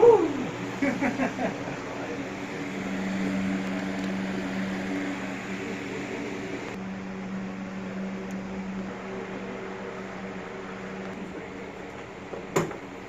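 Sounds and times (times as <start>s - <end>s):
fans humming: 0.0s - 13.0s.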